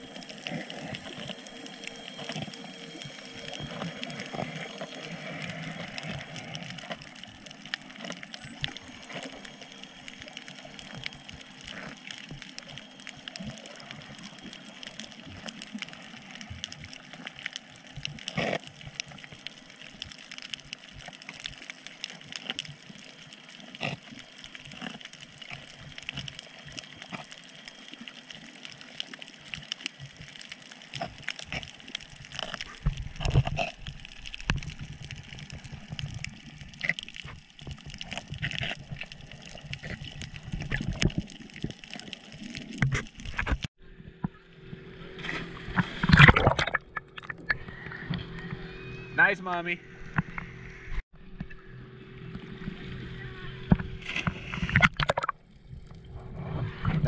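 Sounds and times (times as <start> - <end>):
water gurgling and sloshing: 0.0 - 57.0.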